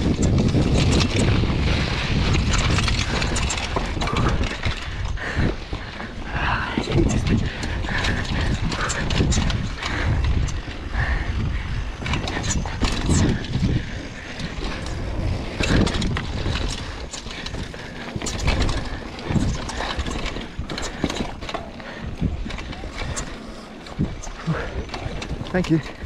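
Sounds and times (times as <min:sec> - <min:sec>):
bike knocking and rattling: 0:00.0 - 0:26.0
bike tyres rumbling on dirt: 0:00.0 - 0:26.0
wind on microphone: 0:00.0 - 0:26.0.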